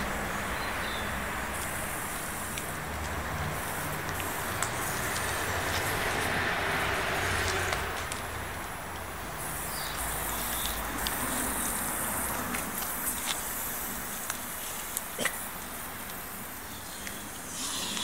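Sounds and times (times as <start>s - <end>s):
hose water hissing onto pavement: 0.0s - 18.0s.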